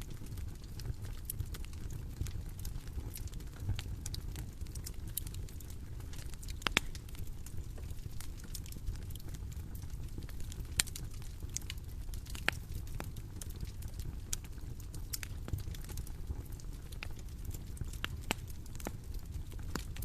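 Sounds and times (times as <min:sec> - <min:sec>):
bonfire low rumble: 0:00.0 - 0:20.0
bonfire pops and snaps: 0:00.0 - 0:20.0.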